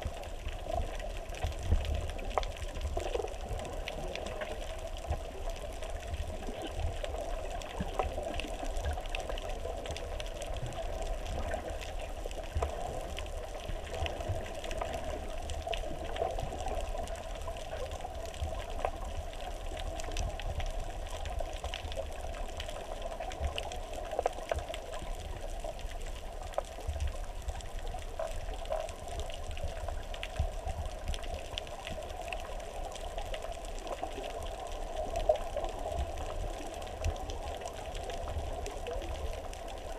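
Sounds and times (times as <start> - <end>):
faint clicks and crackles: 0.0 - 39.9
low underwater rumble: 0.0 - 39.9
muffled underwater rush of water: 0.0 - 39.9.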